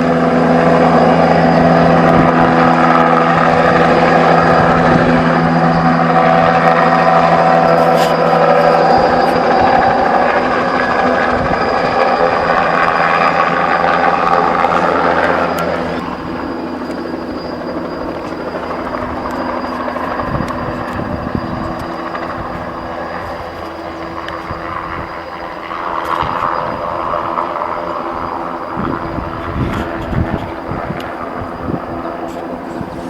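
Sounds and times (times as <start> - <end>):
helicopter flying overhead: 0.0 - 33.0.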